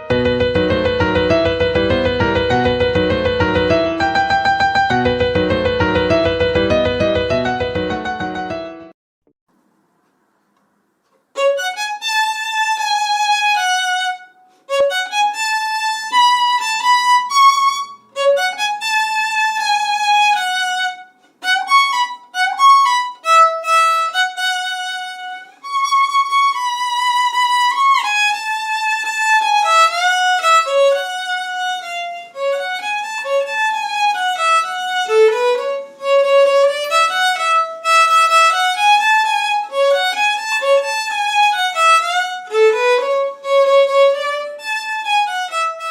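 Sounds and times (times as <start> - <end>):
solo violin melody: 0.0 - 9.0, 11.3 - 45.9.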